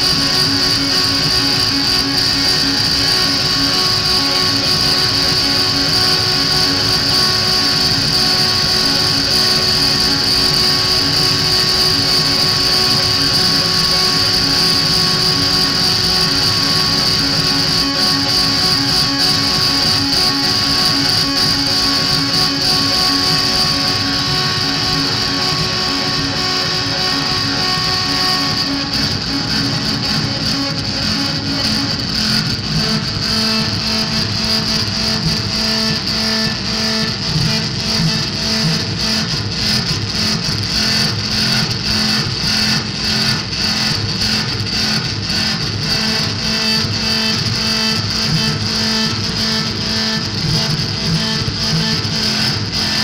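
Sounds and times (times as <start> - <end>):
dense noise music: 0.0 - 53.0
held drone tones: 0.0 - 53.0.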